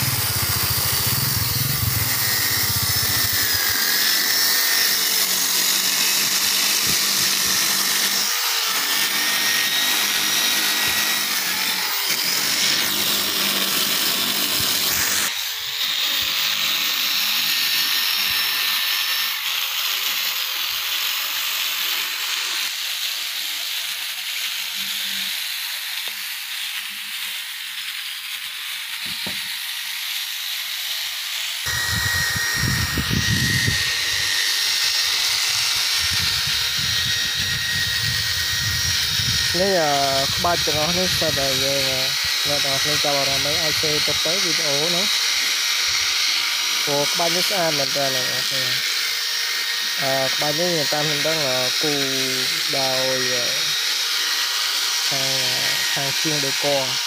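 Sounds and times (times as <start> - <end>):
power tool motor whine: 0.0 - 57.0.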